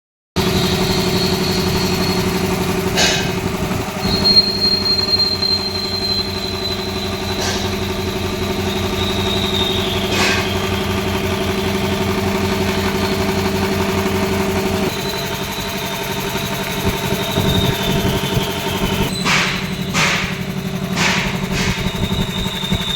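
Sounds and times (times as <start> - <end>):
air compressor humming and whistling: 0.4 - 22.9.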